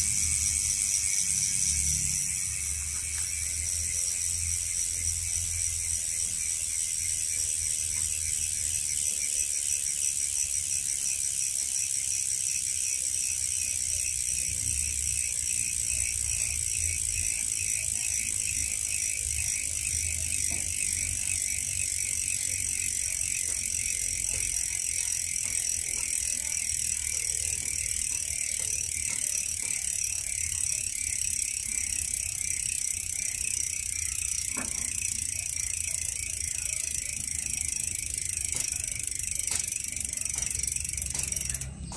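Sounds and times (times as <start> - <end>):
bicycle hub clicking rapidly: 0.0 - 41.9.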